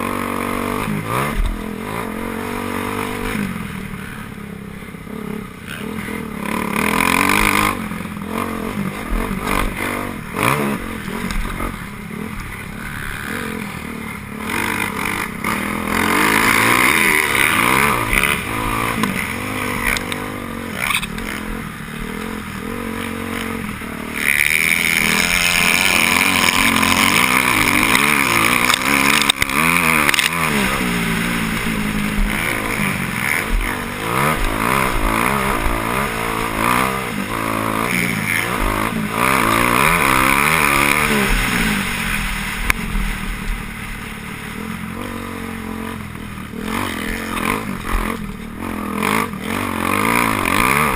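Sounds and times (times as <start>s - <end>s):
motocross bikes revving: 0.0s - 50.9s.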